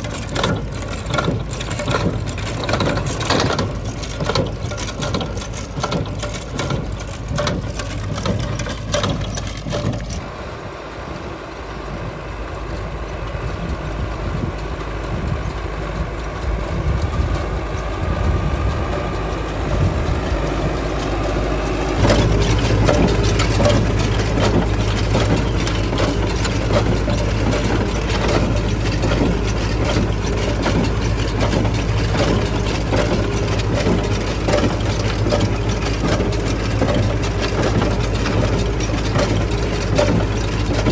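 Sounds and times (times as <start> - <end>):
mechanical clatter: 0.0 - 10.3, 12.5 - 40.9
tractor engine humming: 0.0 - 40.9.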